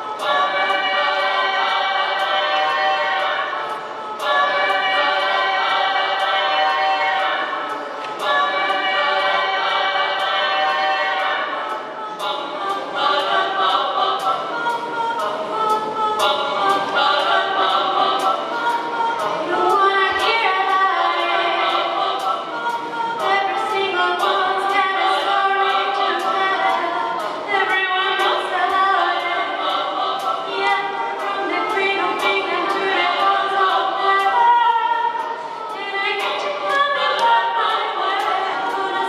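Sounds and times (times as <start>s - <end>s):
layered a cappella singing: 0.0s - 39.0s
steady ticking beat: 0.0s - 39.0s.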